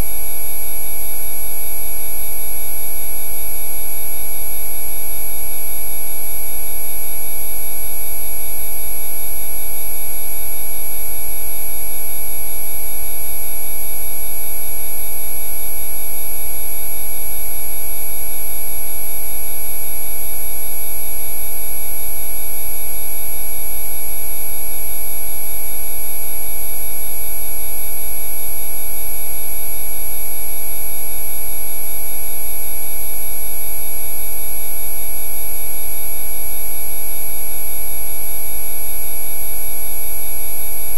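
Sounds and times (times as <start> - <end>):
electronic sine tones: 0.0 - 40.9.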